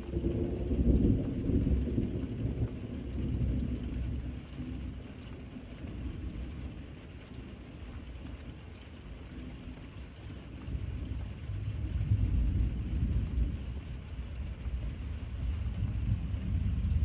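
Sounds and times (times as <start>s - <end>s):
low thunder rumble: 0.0s - 8.0s, 9.1s - 17.0s
steady rain: 0.0s - 17.0s.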